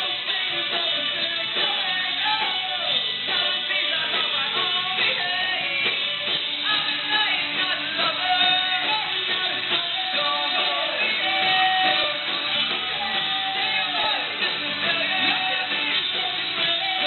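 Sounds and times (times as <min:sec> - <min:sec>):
person singing: 0:00.0 - 0:17.0
rock music with guitars: 0:00.0 - 0:17.0.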